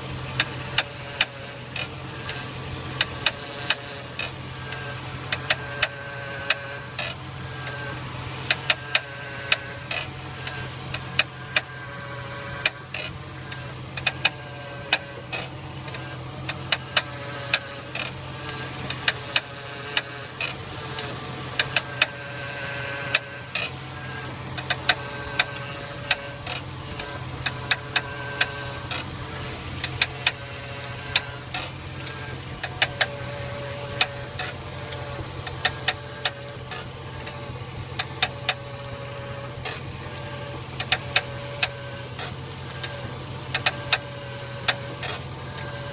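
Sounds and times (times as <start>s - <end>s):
car engine idling: 0.0s - 45.9s
suspension creaking and clicking: 0.3s - 45.9s.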